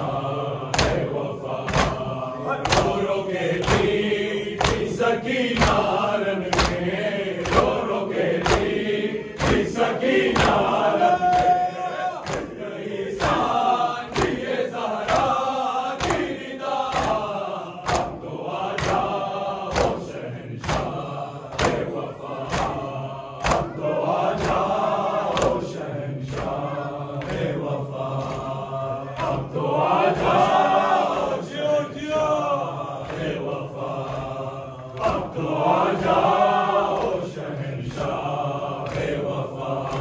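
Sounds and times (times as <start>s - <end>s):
men chanting in unison: 0.0s - 40.0s.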